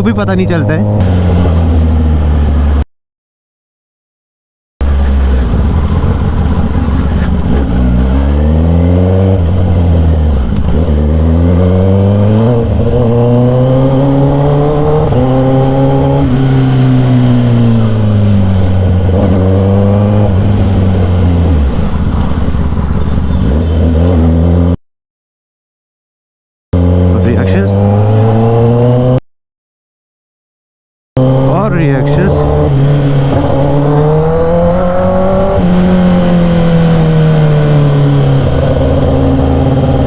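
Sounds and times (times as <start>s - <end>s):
motorcycle engine revving: 0.2s - 2.8s, 4.8s - 24.8s, 26.8s - 29.2s, 31.2s - 40.0s.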